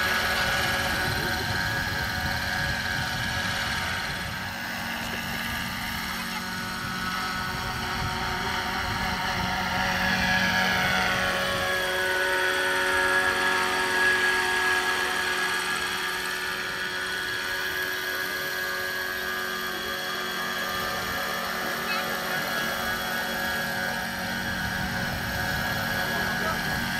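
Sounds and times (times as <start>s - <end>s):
model helicopter rotor whine: 0.0s - 26.9s.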